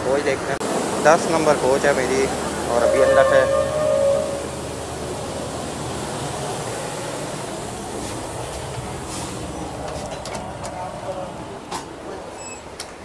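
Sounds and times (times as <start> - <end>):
train engine hum and hiss: 0.0 - 13.0.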